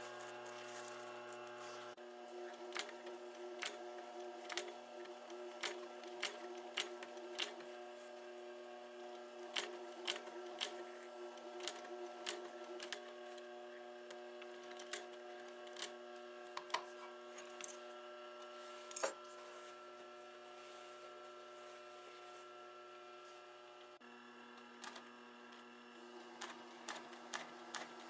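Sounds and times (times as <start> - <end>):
sewing machine motor hum: 0.0 - 28.0.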